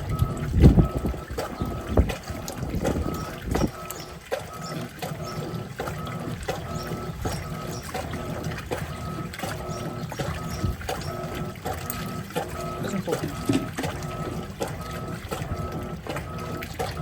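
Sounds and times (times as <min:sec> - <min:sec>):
agitator knocking: 0:00.0 - 0:17.0
washing machine motor whining: 0:00.0 - 0:17.0
water sloshing: 0:00.0 - 0:17.0.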